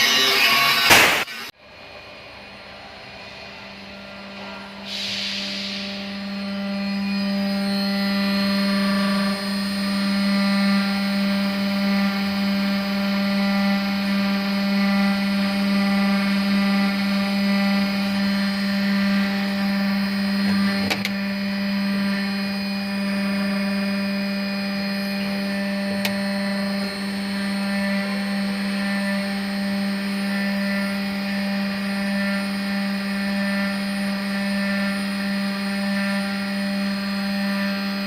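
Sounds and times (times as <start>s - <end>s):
milling spindle whine: 0.0s - 38.0s.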